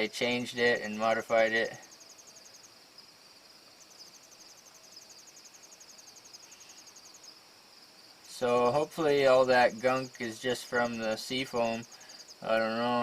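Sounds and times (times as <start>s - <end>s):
faint crickets chirping: 0.0s - 13.0s.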